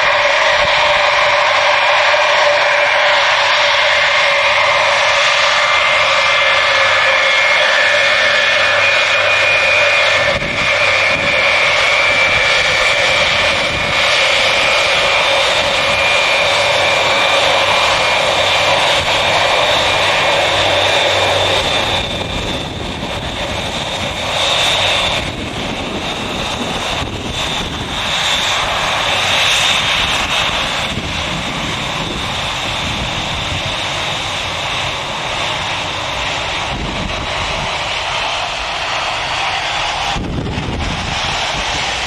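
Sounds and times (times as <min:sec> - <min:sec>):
high screaming whine: 0:00.0 - 0:42.0
jet engines roaring: 0:00.0 - 0:42.0.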